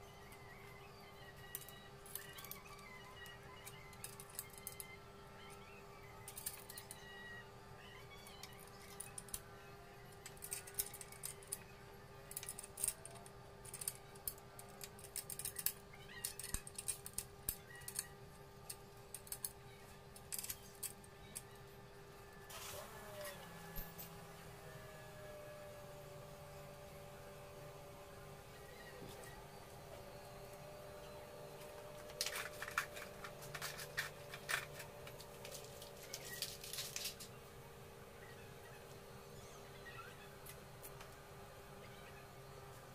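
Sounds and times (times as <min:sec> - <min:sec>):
steady background hum: 0:00.0 - 0:42.9.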